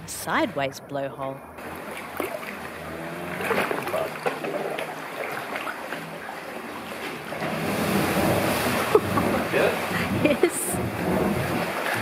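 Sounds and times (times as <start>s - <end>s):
paddle strokes splashing: 1.6s - 12.0s
water lapping against rock: 1.6s - 12.0s.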